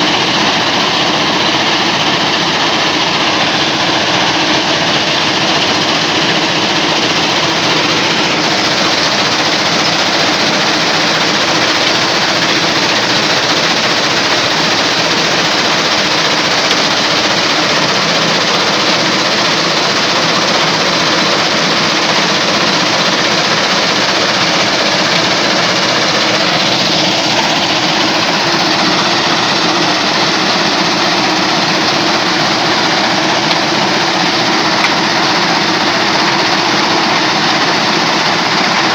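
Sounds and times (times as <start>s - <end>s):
stone crusher machine running: 0.0s - 38.9s.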